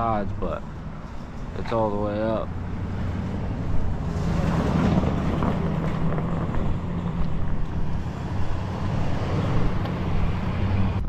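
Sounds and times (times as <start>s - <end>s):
engine humming steadily: 0.0s - 11.0s
wind buffeting microphone: 0.6s - 11.0s.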